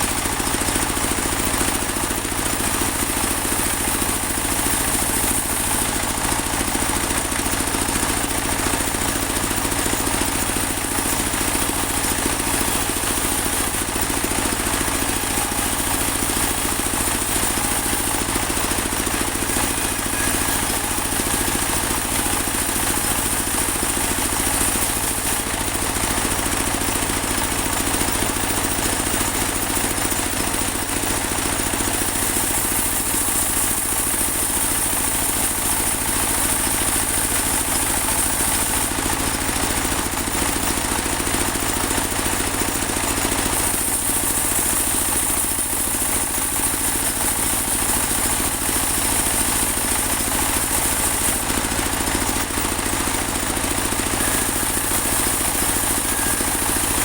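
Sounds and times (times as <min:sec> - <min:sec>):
band sawmill engine drone: 0:00.0 - 0:41.8, 0:43.4 - 0:57.0
high-pitched saw whine: 0:01.1 - 0:07.5, 0:08.6 - 0:39.8, 0:47.6 - 0:57.0.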